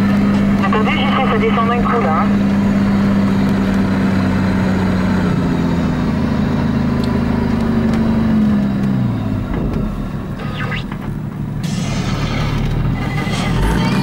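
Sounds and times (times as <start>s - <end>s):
engine drone inside cabin: 0.0s - 14.0s.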